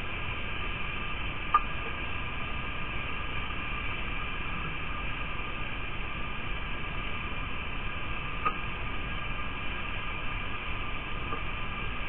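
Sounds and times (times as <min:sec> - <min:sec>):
faint steady whines: 0:00.0 - 0:12.0
rain hissing: 0:00.0 - 0:12.0.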